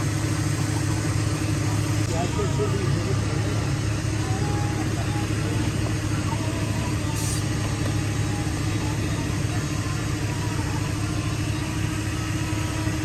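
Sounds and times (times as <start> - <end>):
vehicle engines running and idling: 0.0 - 13.0.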